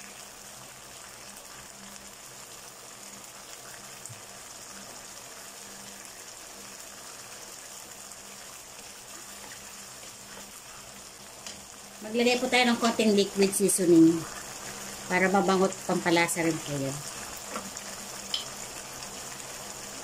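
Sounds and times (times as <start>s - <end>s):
sauce sizzling in a pan: 0.0s - 20.0s.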